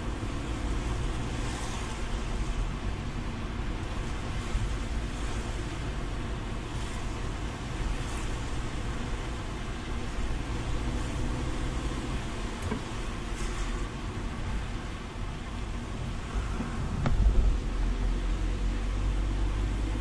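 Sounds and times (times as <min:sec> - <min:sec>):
engine and road rumble: 0:00.0 - 0:20.0
tyres hissing on wet road: 0:00.0 - 0:20.0.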